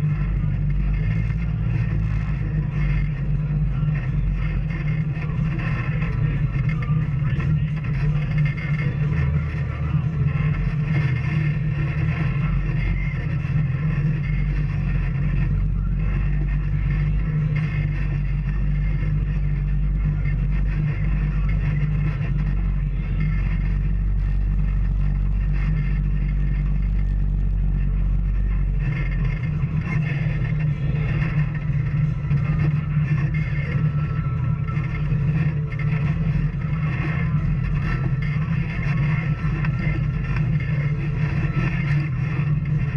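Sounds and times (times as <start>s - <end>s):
off-road vehicle engine running: 0.0s - 42.9s.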